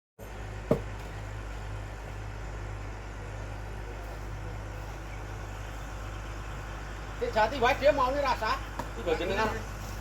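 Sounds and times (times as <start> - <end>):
engine idling: 0.2 - 10.0.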